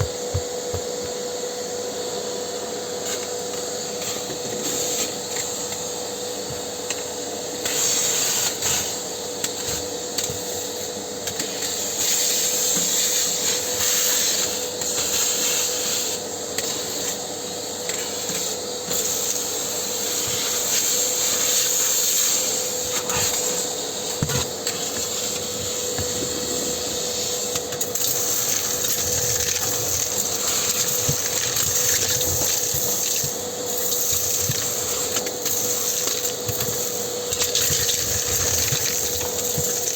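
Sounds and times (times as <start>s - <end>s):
vacuum cleaner hiss: 0.0s - 39.9s.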